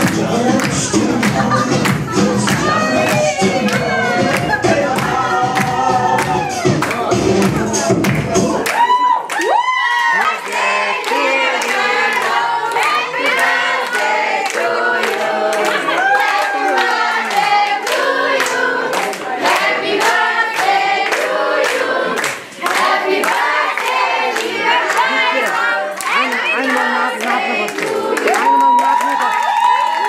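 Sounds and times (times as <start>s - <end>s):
group of people singing: 0.0s - 8.8s, 10.1s - 28.8s
people clapping in time: 0.0s - 30.0s.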